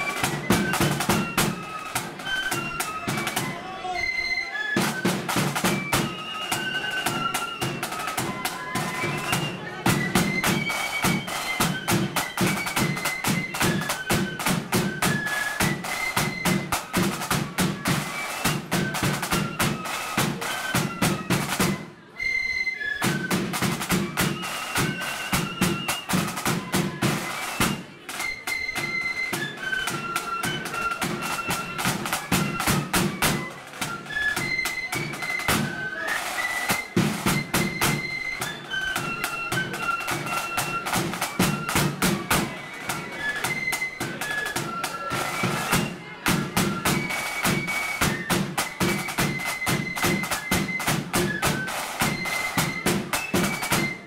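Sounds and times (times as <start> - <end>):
rapid snare drumming: 0.0 - 3.6, 4.8 - 21.9, 23.0 - 54.0
flutes playing a march: 0.0 - 54.0.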